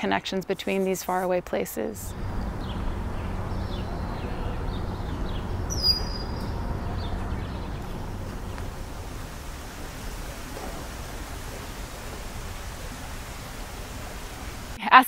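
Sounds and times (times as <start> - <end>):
birds chirping faintly: 0.3 - 14.8
low rumble: 2.1 - 14.8.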